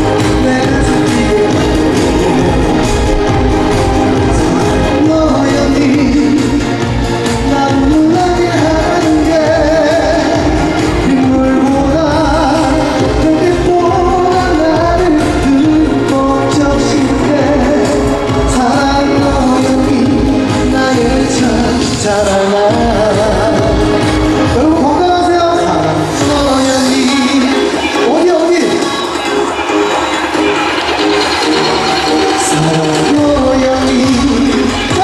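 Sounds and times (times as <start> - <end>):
live pop band music: 0.0 - 35.0.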